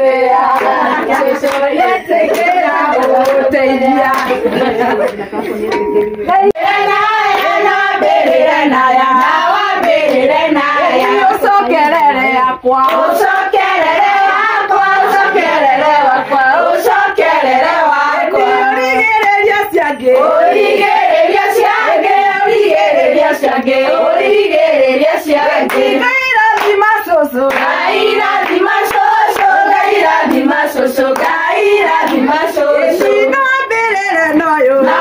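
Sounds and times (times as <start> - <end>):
rhythmic hand clapping: 0.0 - 33.7, 34.4 - 35.0
women singing together: 0.0 - 35.0.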